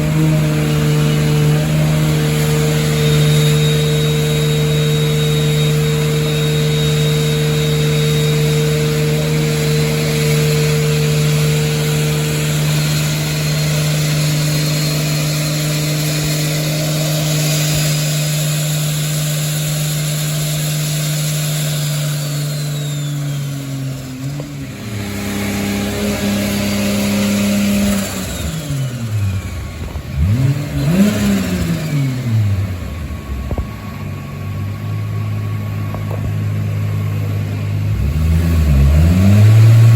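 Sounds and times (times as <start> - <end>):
car engine on dyno revving: 0.0 - 39.9
car engine running steadily: 0.0 - 39.9.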